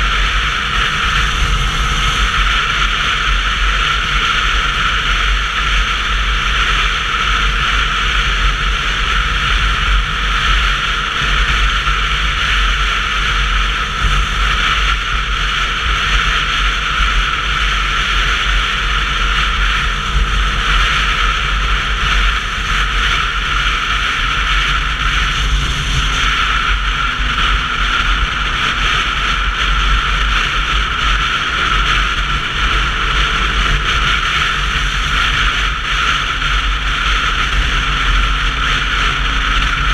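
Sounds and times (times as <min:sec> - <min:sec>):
motorcycle road noise: 0:00.0 - 0:39.9
wind rush: 0:00.0 - 0:39.9.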